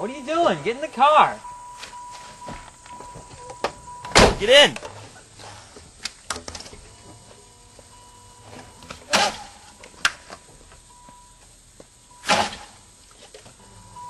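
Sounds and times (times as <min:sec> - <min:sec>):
faint steady tone: 0:00.0 - 0:14.0.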